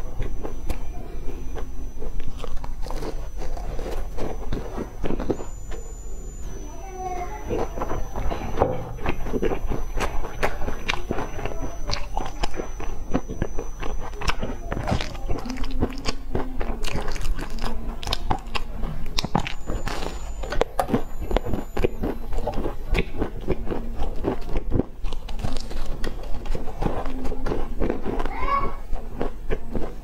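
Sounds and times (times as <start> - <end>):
crunchy pastry chewing: 0.0 - 30.0.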